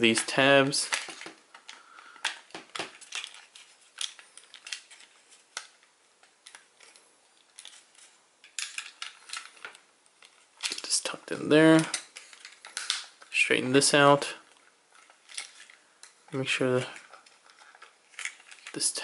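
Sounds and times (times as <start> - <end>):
plastic toy parts clicking: 0.1 - 10.9, 11.7 - 13.3, 14.5 - 19.0.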